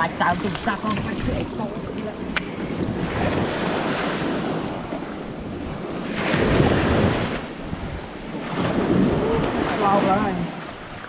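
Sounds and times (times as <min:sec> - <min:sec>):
sea water washing: 0:00.0 - 0:11.0
wind on microphone: 0:00.0 - 0:11.0.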